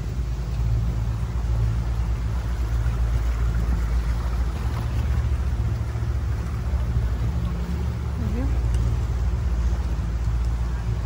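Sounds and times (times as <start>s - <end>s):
boat motor droning: 0.0s - 11.0s
water wash: 0.0s - 11.0s.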